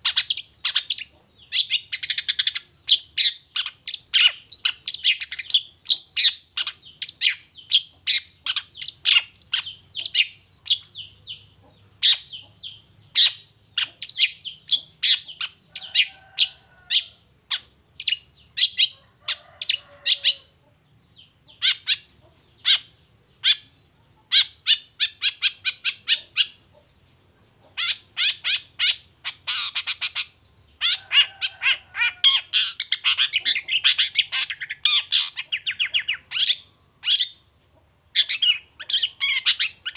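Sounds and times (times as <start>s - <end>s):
bird chattering and trilling: 0.0s - 39.9s.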